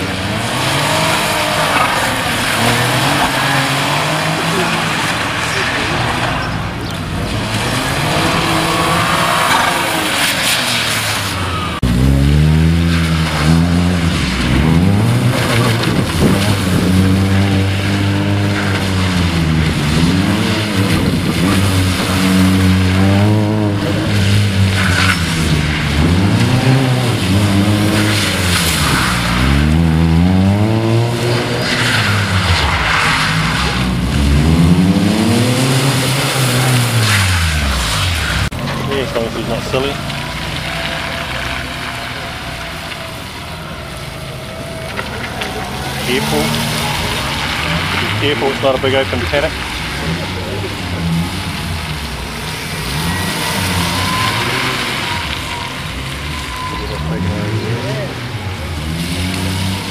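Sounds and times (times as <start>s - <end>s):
car engine revving hard: 0.0s - 59.9s
tyre noise on wet road: 0.0s - 59.9s.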